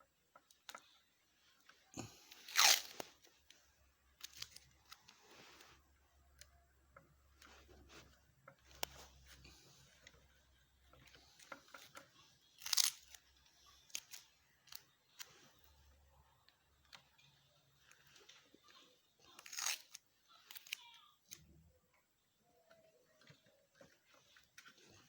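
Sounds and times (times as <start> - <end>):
small clicks and handling noises: 0.0 - 25.0.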